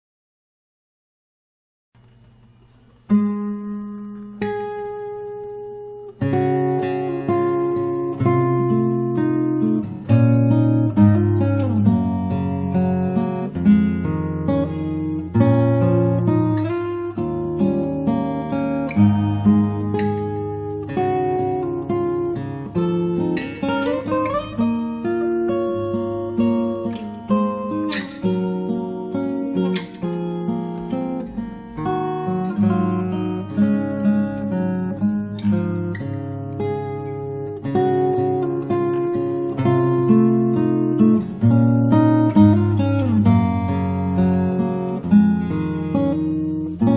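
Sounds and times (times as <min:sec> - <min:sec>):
acoustic guitar chords: 0:02.0 - 0:46.9.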